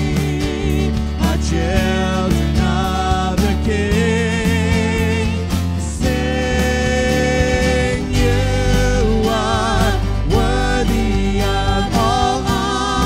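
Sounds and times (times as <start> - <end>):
man and woman singing: 0.0 - 13.0
strummed acoustic guitar: 0.0 - 13.0.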